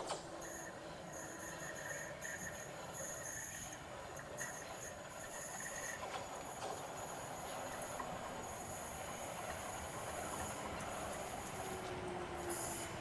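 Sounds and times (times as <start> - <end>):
train rolling on track: 0.0 - 13.0.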